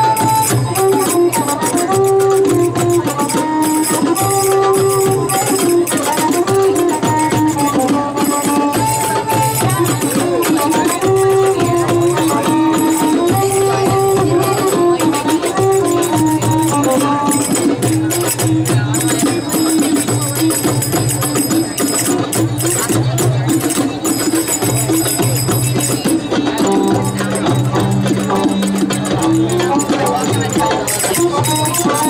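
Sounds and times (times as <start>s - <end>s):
steady percussion: 0.0s - 32.0s.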